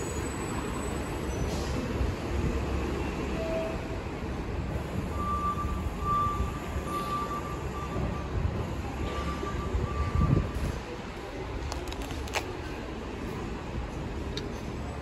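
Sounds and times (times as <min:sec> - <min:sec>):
bus diesel engines rumbling: 0:00.0 - 0:15.0.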